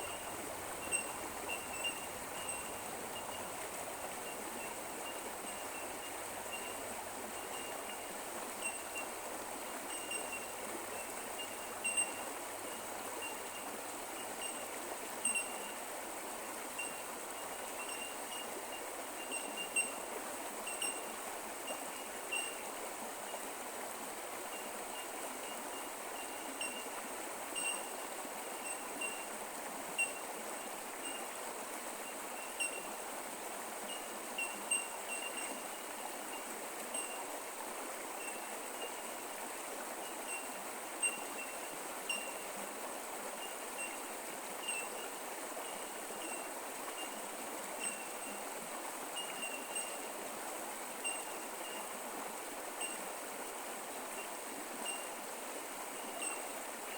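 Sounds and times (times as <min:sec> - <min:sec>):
creek water running: 0:00.0 - 0:56.9.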